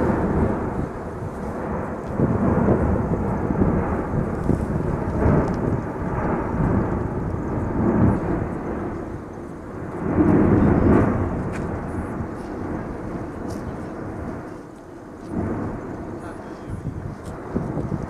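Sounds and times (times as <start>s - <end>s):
volcanic vent rumbling: 0.0s - 18.0s.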